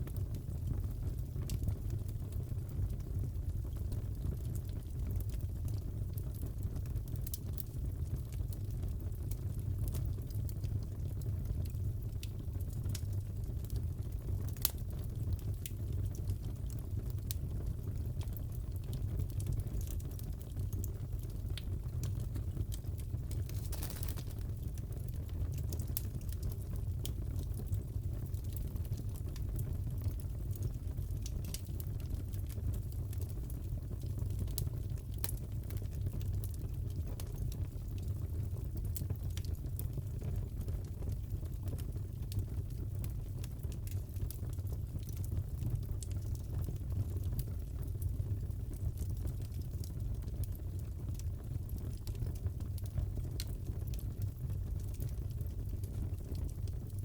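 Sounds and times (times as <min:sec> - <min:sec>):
low fire rumble: 0:00.0 - 0:57.0
wood fire crackling: 0:00.1 - 0:57.0.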